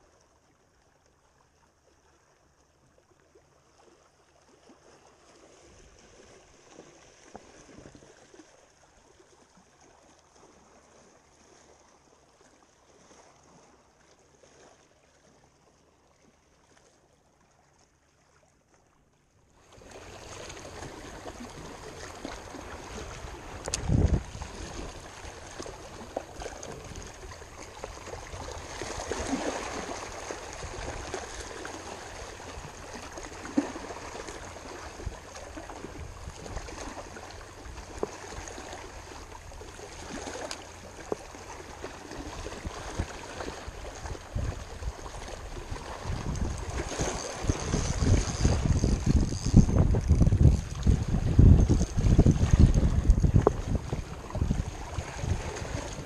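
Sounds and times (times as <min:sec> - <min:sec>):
small waves lapping on rocks: 0:00.0 - 0:56.0.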